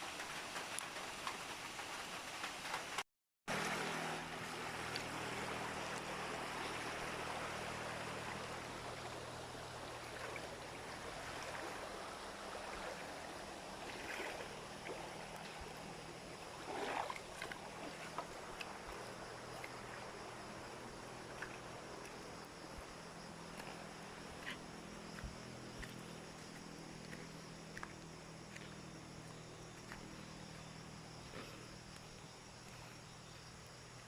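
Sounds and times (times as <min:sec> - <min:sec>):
low motor hum: 0:03.5 - 0:34.0.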